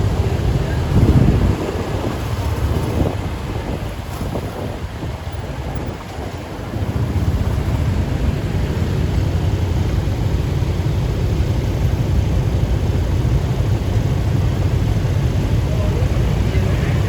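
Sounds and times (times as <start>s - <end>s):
vehicle rumble: 0.0s - 17.0s
wind on microphone: 0.0s - 17.0s.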